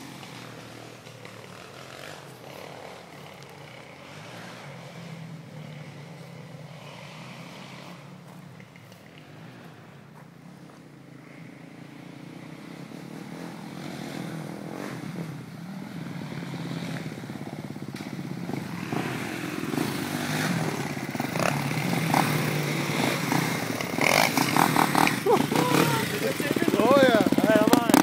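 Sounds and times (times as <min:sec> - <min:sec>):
atv engine approaching: 0:00.0 - 0:28.0.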